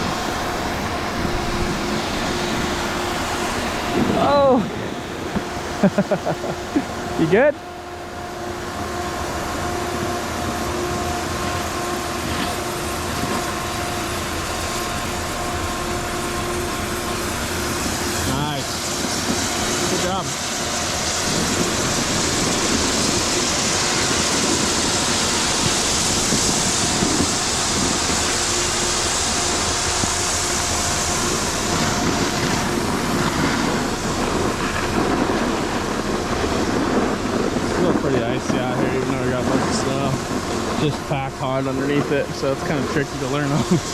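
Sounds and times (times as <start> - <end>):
constant rushing noise: 0.0 - 43.9
steady mechanical hum: 0.0 - 43.9.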